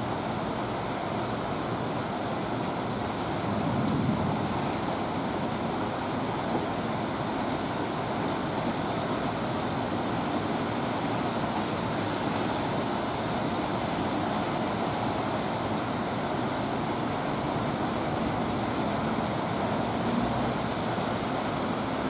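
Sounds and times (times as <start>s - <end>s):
torrential rain: 0.0s - 22.0s.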